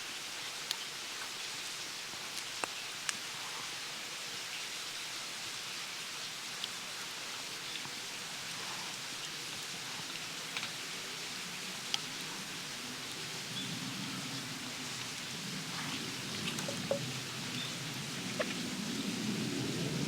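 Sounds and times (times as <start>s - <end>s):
campfire hissing and crackling: 0.0s - 20.0s.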